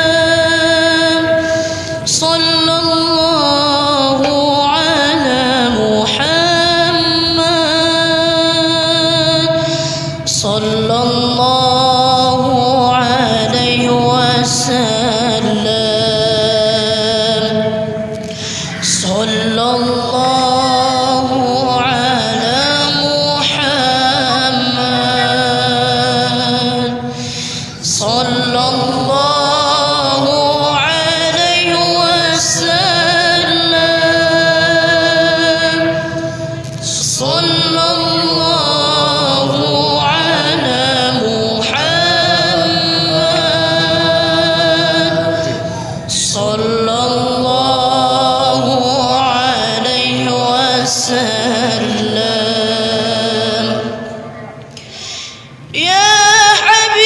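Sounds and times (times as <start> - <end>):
devotional singing: 0.0 - 57.0.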